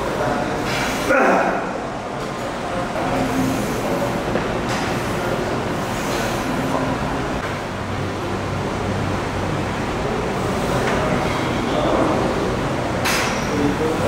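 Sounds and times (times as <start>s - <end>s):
steady rushing noise with low hum: 0.0s - 14.0s.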